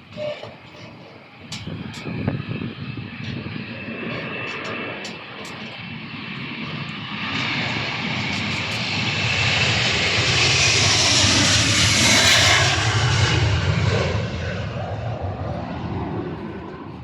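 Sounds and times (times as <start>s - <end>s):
airplane engines passing: 0.0s - 17.0s.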